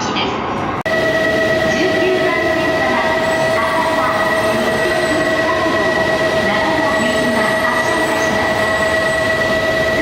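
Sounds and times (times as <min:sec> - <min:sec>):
high two-tone train squeal: 0:00.9 - 0:10.0.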